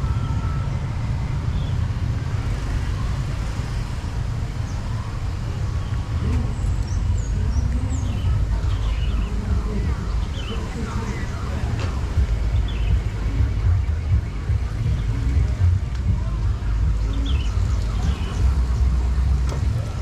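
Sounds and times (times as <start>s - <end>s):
faint traffic: 0.0s - 20.0s
motorcycle engine rumble: 0.0s - 20.0s
wind noise on microphone: 0.0s - 20.0s.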